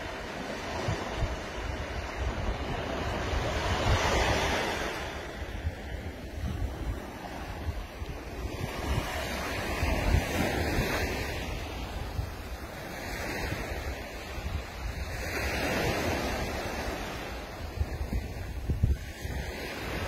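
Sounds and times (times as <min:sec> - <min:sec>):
waves breaking on beach: 0:00.0 - 0:20.0
wind buffeting microphone: 0:00.0 - 0:20.0.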